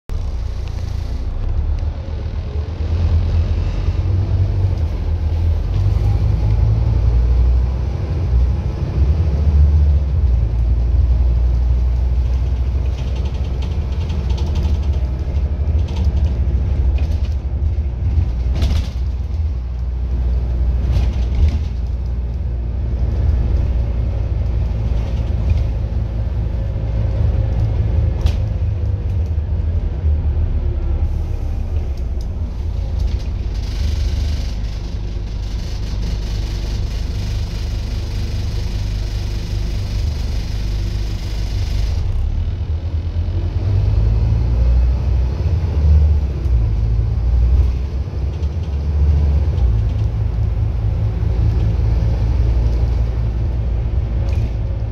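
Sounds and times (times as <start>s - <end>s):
bus diesel engine rumble: 0.1s - 54.9s.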